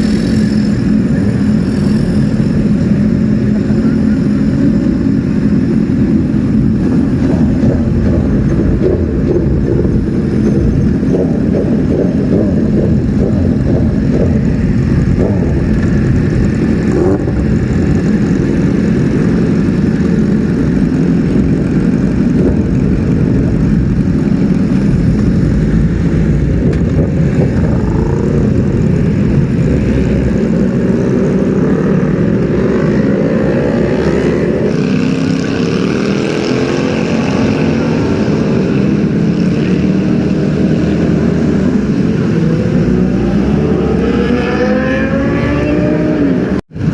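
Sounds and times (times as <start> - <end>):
motorcycle engines idling: 0.0 - 43.1.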